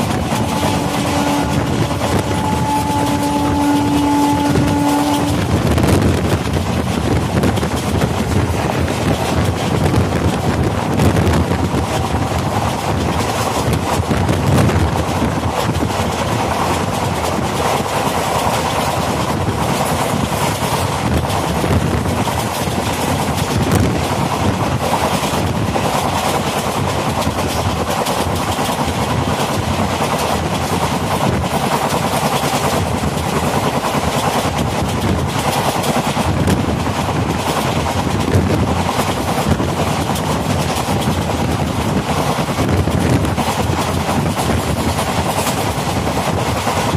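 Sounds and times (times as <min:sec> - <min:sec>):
rush of air and rattle: 0:00.0 - 0:46.9
train wheels clattering on rails: 0:00.0 - 0:46.9.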